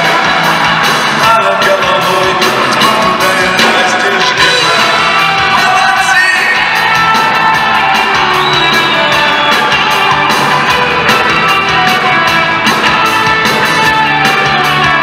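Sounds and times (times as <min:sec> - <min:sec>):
live pop-rock band playing: 0:00.0 - 0:15.0
steady drum beat: 0:00.0 - 0:15.0
sustained guitar and keyboard: 0:00.0 - 0:15.0.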